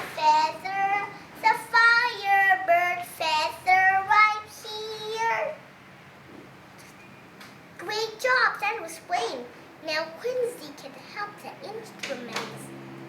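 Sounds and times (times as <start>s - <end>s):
girl singing unaccompanied: 0.0s - 5.7s, 7.8s - 12.8s.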